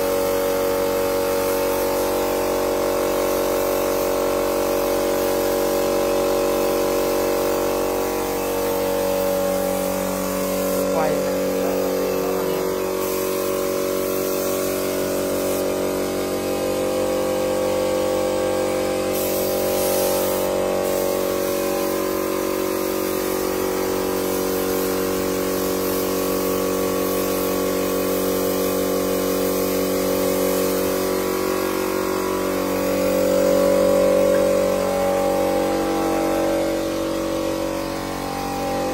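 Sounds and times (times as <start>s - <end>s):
air compressor humming: 0.0s - 38.9s
spray gun hissing: 0.0s - 38.9s.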